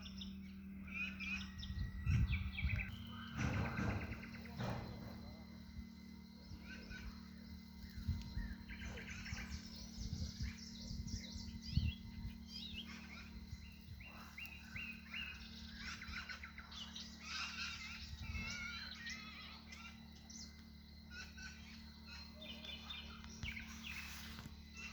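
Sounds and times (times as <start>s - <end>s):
songbirds singing: 0.0s - 24.9s
steady low hum: 0.0s - 24.9s.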